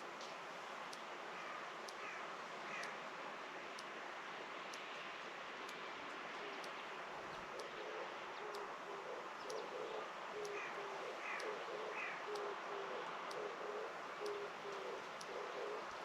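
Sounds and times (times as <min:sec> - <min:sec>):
faint high ticks: 0:00.0 - 0:16.0.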